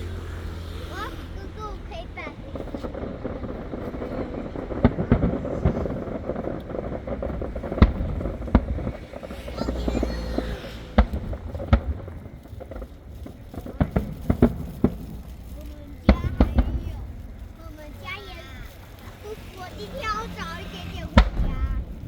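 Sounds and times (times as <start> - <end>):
firework shells bursting: 0.0 - 22.0
murmur of outdoor crowd: 0.0 - 22.0.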